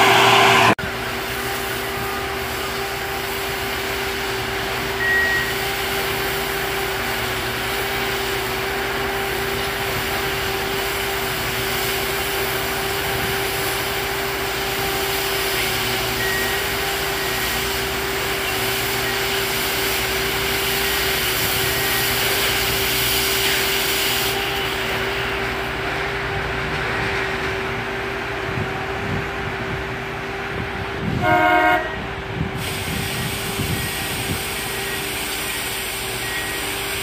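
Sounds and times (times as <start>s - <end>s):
track machine whining: 0.0s - 31.4s.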